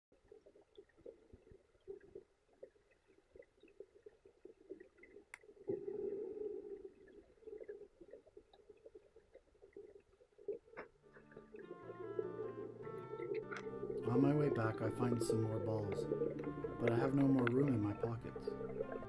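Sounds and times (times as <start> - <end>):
muffled water rush: 0.1 - 19.0
underwater clicks and crackles: 0.1 - 19.0.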